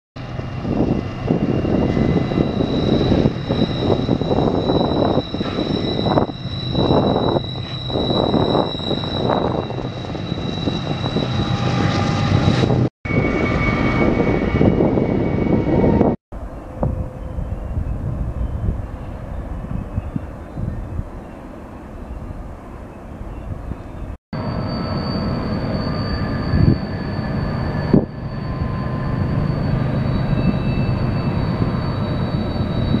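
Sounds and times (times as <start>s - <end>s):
diesel locomotives droning: 0.2s - 33.0s.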